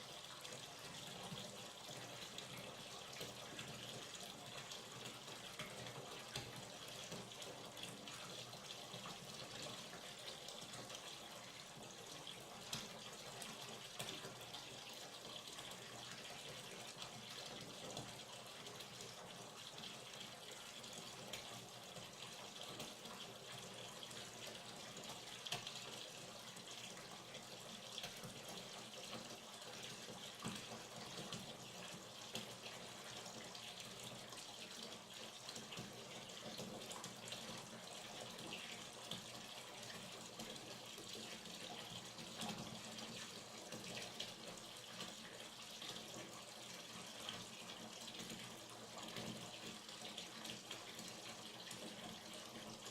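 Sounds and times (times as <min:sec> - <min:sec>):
tap water filling bathtub: 0:00.0 - 0:52.9.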